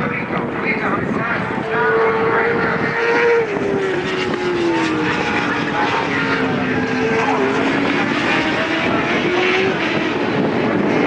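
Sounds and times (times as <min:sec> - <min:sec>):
outdoor background noise: 0:00.0 - 0:11.0
engine drone falling in pitch: 0:00.2 - 0:11.0.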